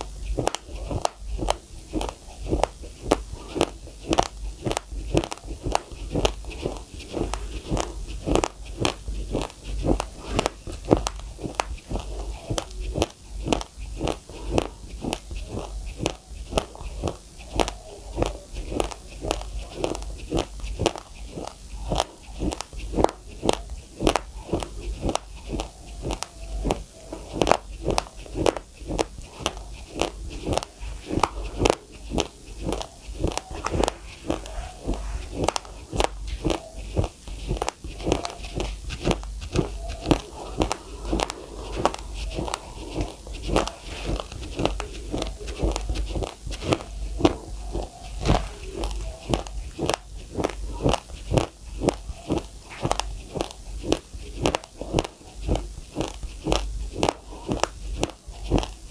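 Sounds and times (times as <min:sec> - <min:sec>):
chewing crunchy raw rice: 0:00.0 - 0:58.9.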